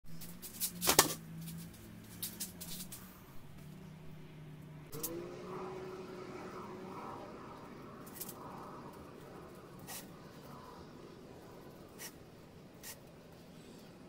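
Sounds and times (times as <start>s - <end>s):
low mechanical hum: 0.1s - 14.0s
higher hum sliding down: 0.6s - 14.0s.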